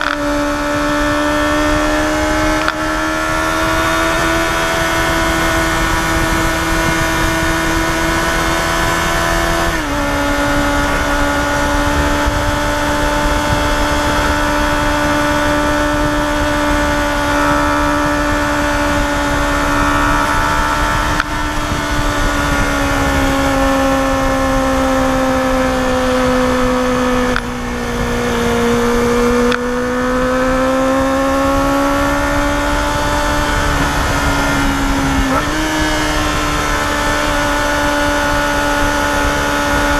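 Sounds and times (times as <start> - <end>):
motorcycle engine high-pitched wail: 0.0 - 39.9
rushing wind: 0.0 - 39.9.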